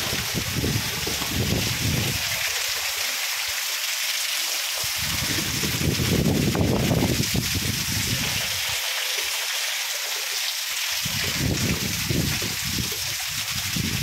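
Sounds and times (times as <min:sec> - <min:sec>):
torrential rain on concrete: 0:00.0 - 0:14.0.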